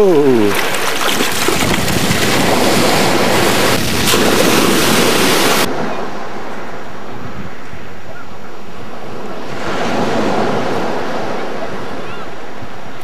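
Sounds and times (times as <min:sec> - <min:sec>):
surf washing and splashing: 0:00.0 - 0:07.3, 0:08.6 - 0:13.0
distant waves: 0:00.0 - 0:13.0
wind buffeting the microphone: 0:00.4 - 0:06.2, 0:06.9 - 0:13.0.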